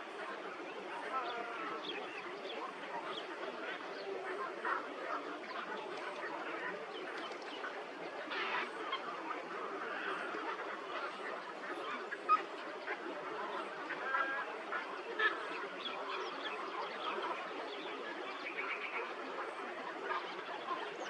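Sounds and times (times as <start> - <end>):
chorus of birds calling: 0.0 - 21.0.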